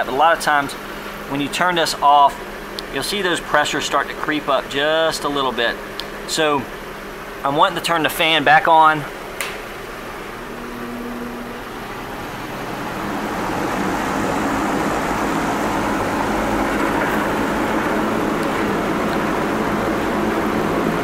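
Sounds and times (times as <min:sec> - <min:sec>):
car engine idling: 0:00.0 - 0:21.0
floor fan blowing: 0:00.0 - 0:21.0.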